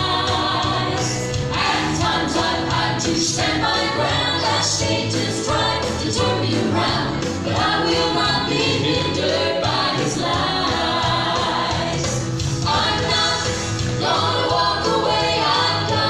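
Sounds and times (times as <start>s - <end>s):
instrumental backing with bass line: 0.0s - 16.0s
people singing in harmony: 0.0s - 16.0s.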